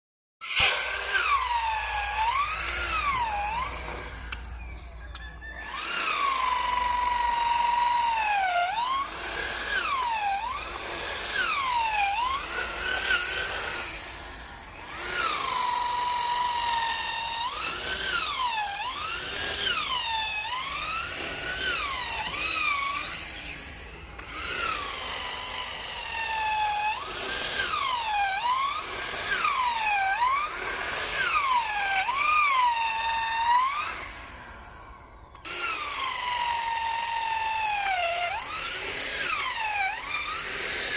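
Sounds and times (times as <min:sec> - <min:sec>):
power drill boring into wood: 0:00.4 - 0:40.9.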